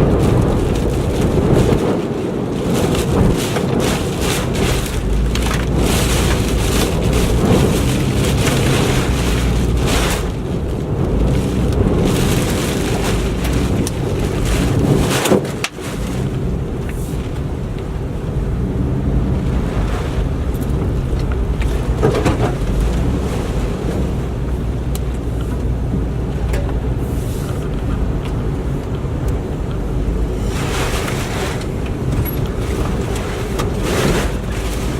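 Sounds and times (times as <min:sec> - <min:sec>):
hurricane wind buffeting microphone: 0:00.0 - 0:34.9
rain: 0:00.0 - 0:34.9.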